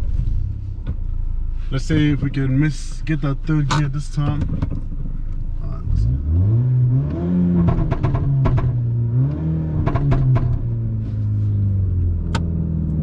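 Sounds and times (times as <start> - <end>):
car engine under full throttle: 0.0 - 13.0
exhaust crackles: 0.0 - 13.0.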